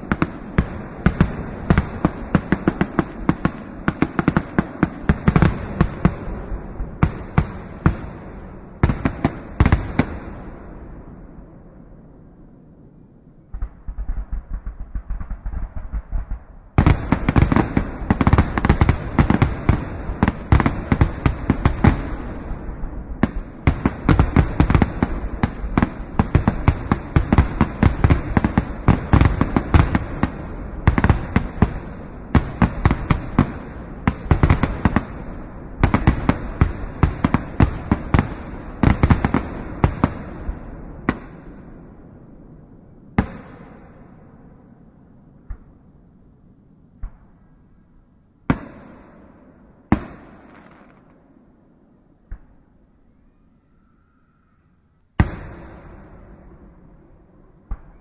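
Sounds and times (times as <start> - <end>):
fireworks bangs and crackles: 0.0 - 12.7, 13.5 - 46.2, 48.4 - 51.6, 55.2 - 58.0.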